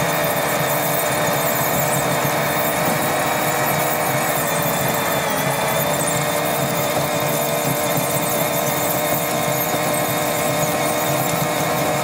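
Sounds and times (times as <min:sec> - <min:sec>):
high-pitched whine: 0:00.0 - 0:11.4
tractor diesel engine under load: 0:00.0 - 0:12.0.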